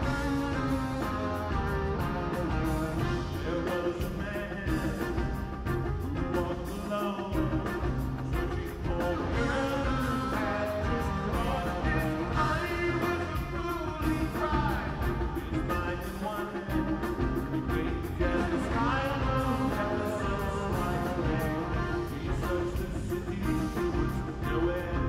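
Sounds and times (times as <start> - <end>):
drums: 0.0 - 25.0
guitar: 0.0 - 25.0
live rock band: 0.0 - 25.0
person singing: 0.0 - 25.0.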